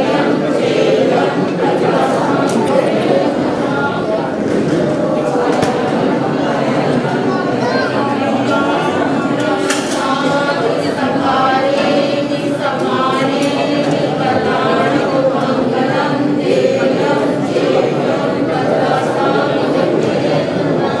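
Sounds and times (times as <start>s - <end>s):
men and women chanting together: 0.0s - 21.0s.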